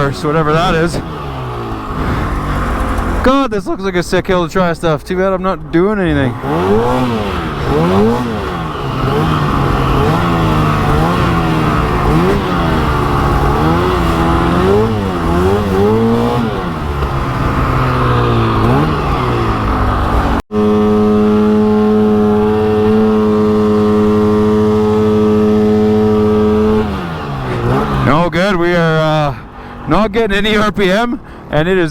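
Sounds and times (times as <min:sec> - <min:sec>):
snowmobile engine revving: 0:00.0 - 0:31.8.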